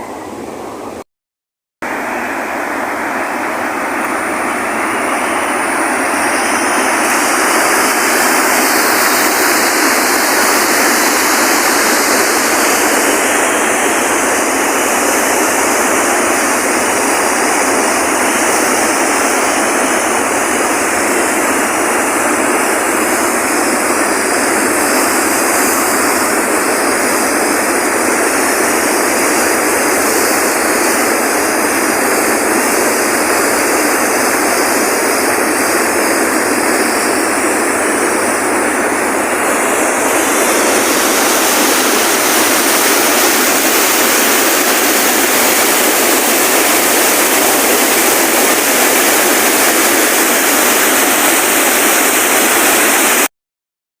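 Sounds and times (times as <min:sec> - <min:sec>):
water rushing: 0:00.0 - 0:01.0, 0:01.8 - 0:53.3.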